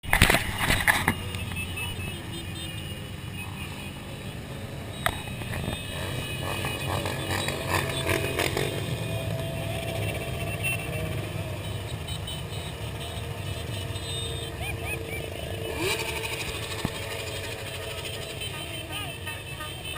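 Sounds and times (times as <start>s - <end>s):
motorcycle engines running: 0.0s - 19.9s.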